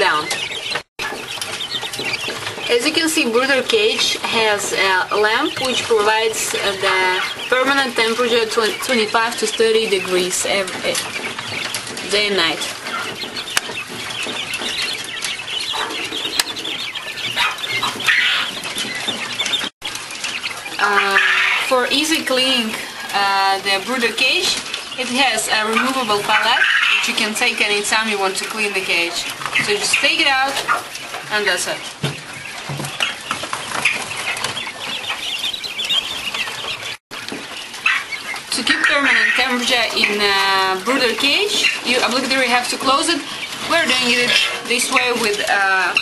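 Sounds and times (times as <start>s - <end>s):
quail chicks peeping: 0.0s - 46.0s.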